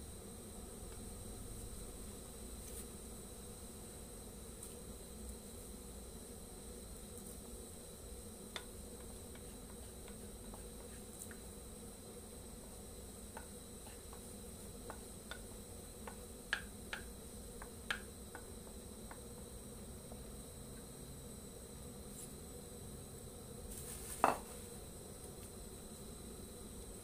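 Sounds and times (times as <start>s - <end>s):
faint high hum: 0.0s - 27.0s.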